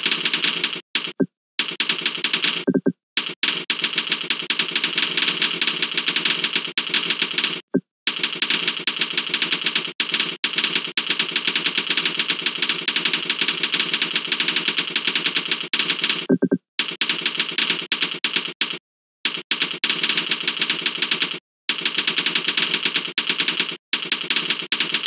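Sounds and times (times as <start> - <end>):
keyboard typing: 0.0 - 25.0.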